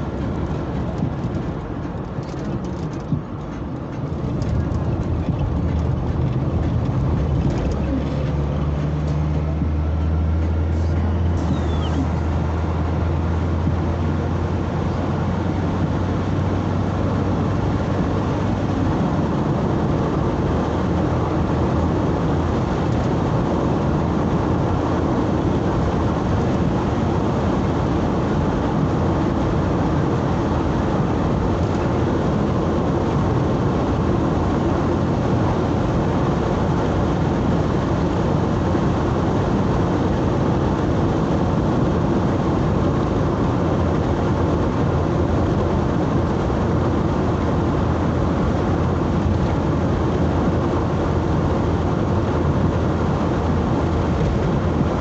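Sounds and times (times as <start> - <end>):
road noise: 0.0 - 55.0
vehicle engine hum: 0.0 - 55.0.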